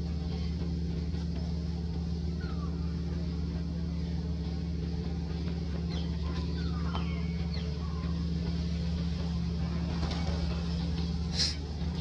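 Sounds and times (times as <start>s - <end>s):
idling engine hum: 0.0s - 12.0s.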